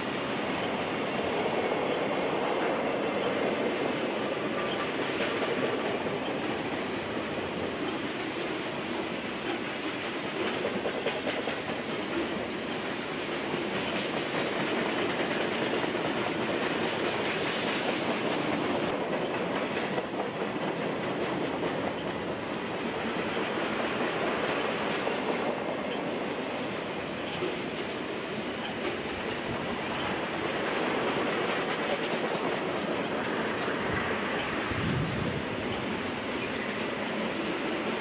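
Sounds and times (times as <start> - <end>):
freight train wheel and rail noise: 0.0 - 38.0
wheels clacking over rail joints: 0.0 - 38.0.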